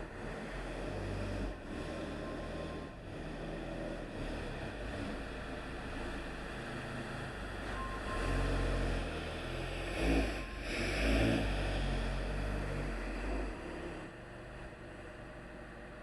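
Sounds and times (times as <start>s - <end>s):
machine engine rumbling: 0.0s - 16.0s.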